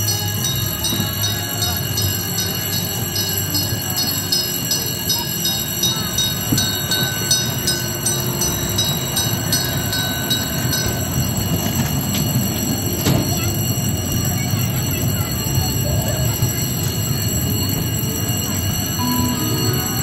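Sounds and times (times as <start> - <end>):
level crossing bells ringing: 0.0 - 20.0
small train rumbling: 0.0 - 20.0.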